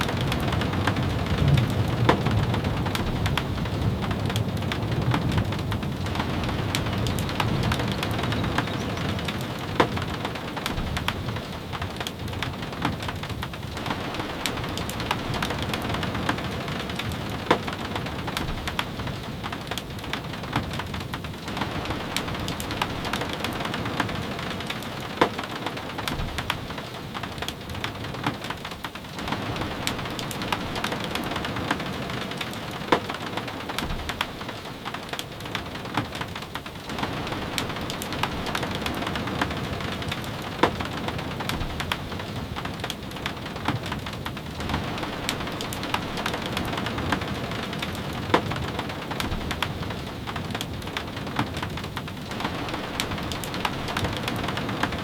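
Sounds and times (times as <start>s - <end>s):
rain falling: 0.0s - 55.0s
sharp taps of rain: 0.0s - 55.0s.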